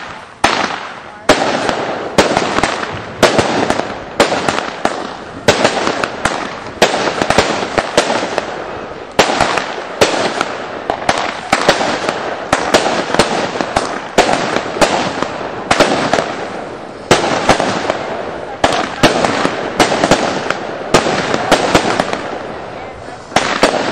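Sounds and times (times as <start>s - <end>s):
fireworks bangs with hiss: 0.0s - 23.9s.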